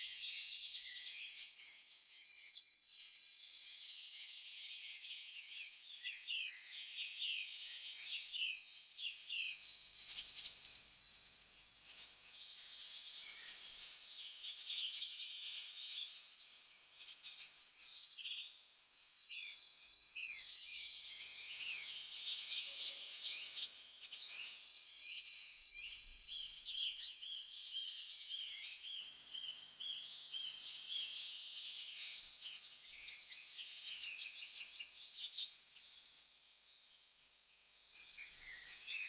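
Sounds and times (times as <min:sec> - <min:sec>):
birds chirping and twittering: 0:00.0 - 0:39.0.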